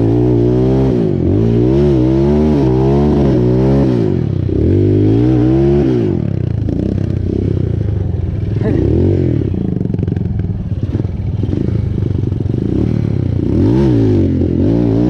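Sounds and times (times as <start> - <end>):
motorcycle engine accelerating hard: 0.0 - 15.0.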